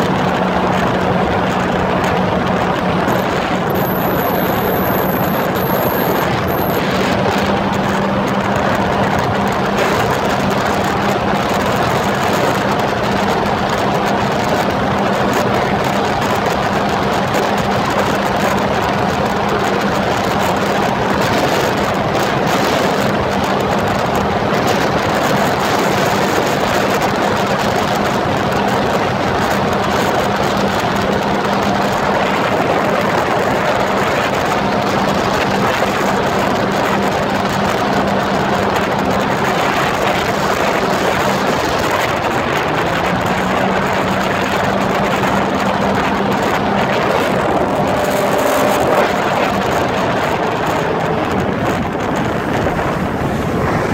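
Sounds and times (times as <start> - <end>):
jet ski engine running: 0.0 - 53.9
wind and water rushing: 0.0 - 53.9.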